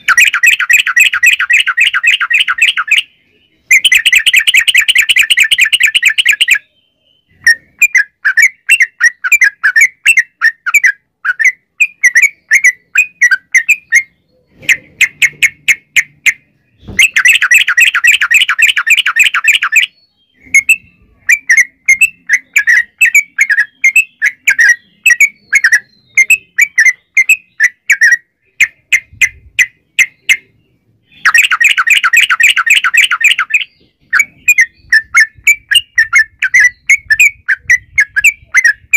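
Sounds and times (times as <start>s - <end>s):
bird chattering notes: 0.0s - 38.9s
bird singing rattling trills: 0.0s - 38.9s.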